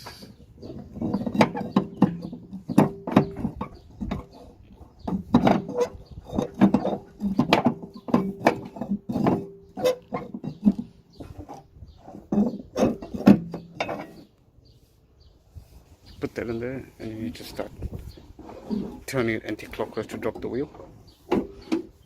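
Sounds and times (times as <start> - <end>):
wheel brace clanking on metal: 0.0 - 14.3, 16.5 - 22.0.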